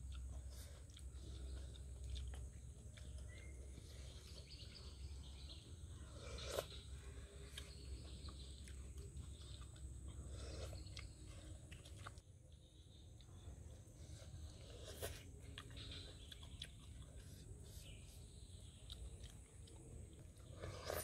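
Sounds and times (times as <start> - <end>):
faint chewing: 0.0 - 21.0
low background hum: 0.0 - 21.0.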